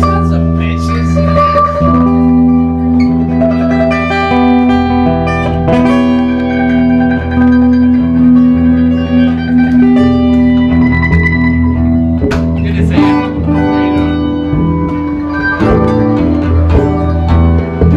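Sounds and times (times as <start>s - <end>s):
acoustic guitar: 0.0s - 17.9s
mandolin: 0.0s - 17.9s
upright bass: 0.0s - 17.9s.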